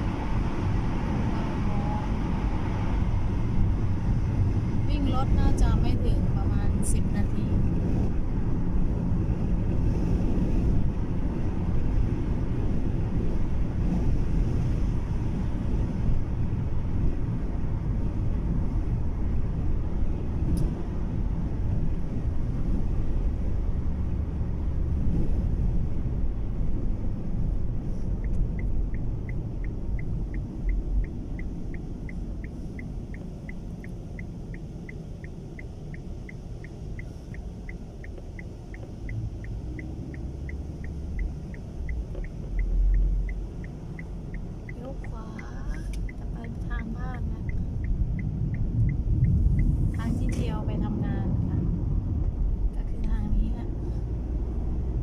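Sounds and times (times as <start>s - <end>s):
road rumble inside car: 0.0s - 55.0s
turn signal ticking: 0.0s - 55.0s.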